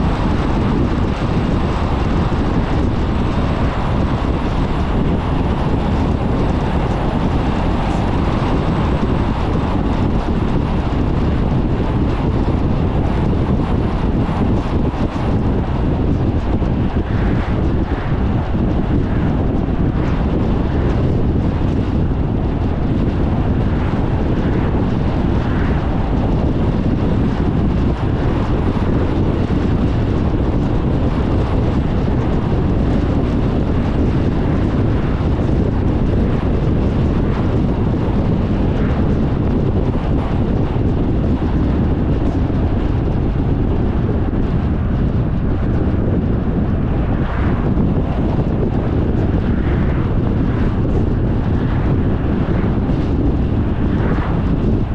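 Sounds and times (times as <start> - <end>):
car road and wind noise: 0.0 - 54.9.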